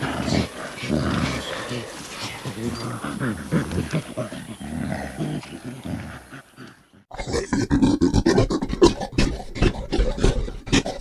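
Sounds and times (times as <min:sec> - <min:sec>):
gorilla grunting: 0:00.0 - 0:11.0.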